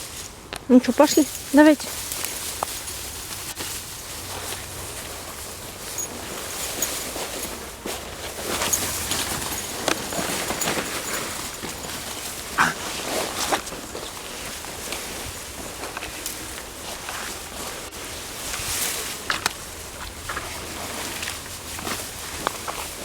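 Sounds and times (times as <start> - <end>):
dry weeds rustling and crackling: 0.0 - 23.0.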